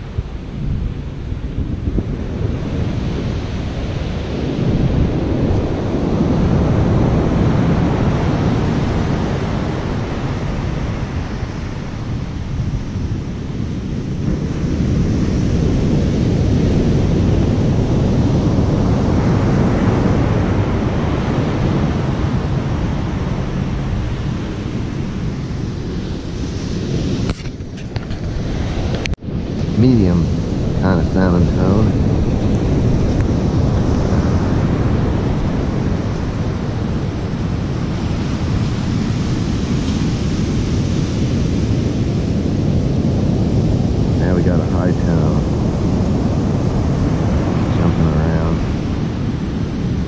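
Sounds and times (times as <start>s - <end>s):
surf breaking on beach: 0.0s - 50.0s
wind on microphone: 0.0s - 50.0s.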